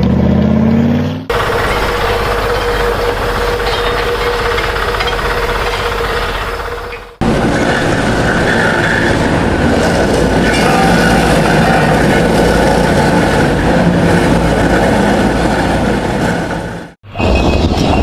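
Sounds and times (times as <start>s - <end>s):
heavy vehicle rumbling: 0.0s - 18.0s.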